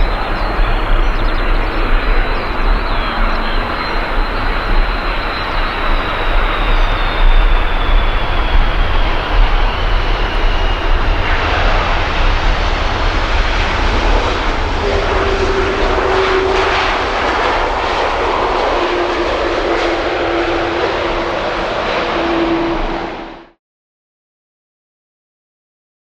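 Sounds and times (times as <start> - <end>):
jet engines roaring: 0.0 - 23.6.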